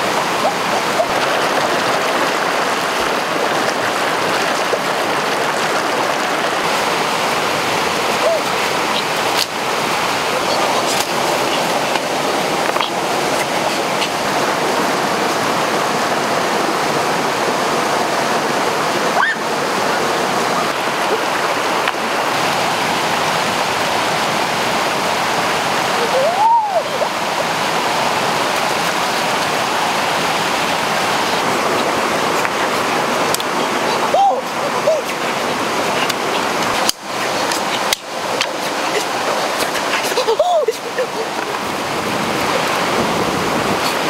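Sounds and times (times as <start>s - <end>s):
stream and waterfall rushing: 0.0s - 44.0s.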